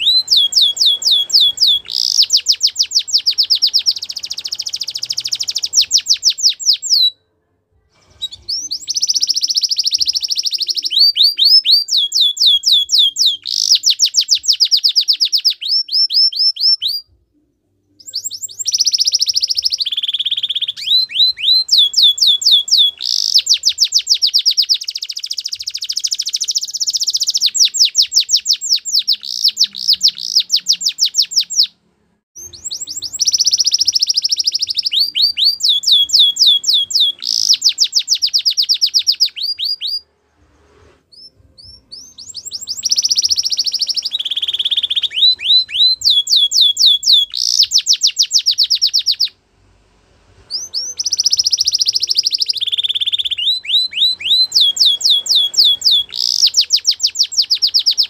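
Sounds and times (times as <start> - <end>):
canary singing trills: 0.0 - 7.2, 8.2 - 31.8, 32.4 - 40.1, 41.1 - 49.4, 50.5 - 58.0.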